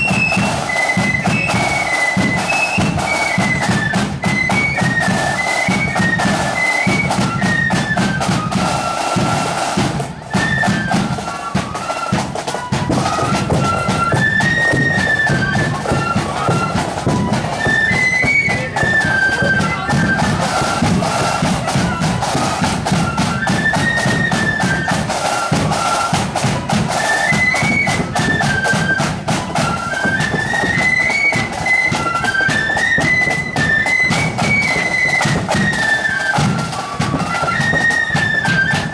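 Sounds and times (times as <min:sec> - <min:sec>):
drums keeping a steady beat: 0:00.0 - 0:38.9
flute band playing a march: 0:00.0 - 0:38.9.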